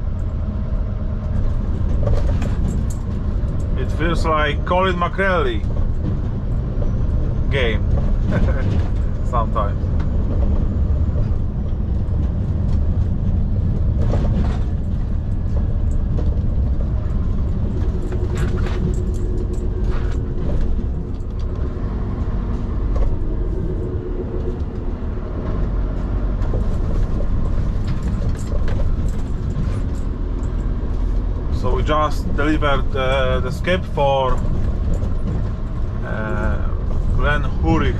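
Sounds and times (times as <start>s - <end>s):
truck engine and road rumble: 0.0s - 37.9s
truck body knocks and rattles: 1.2s - 3.8s, 5.3s - 31.6s, 34.4s - 36.0s.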